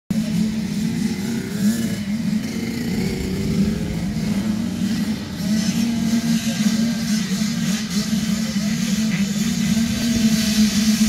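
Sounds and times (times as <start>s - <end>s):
motorbike engines revving: 0.1s - 11.0s.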